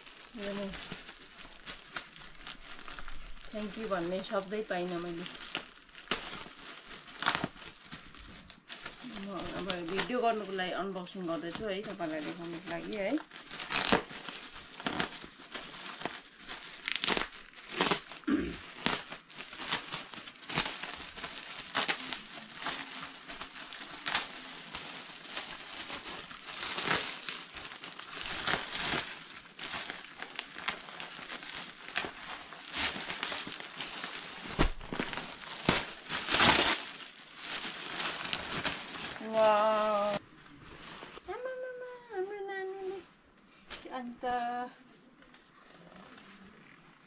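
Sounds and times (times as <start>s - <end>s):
foil wrap crinkling and tearing: 0.0s - 41.6s.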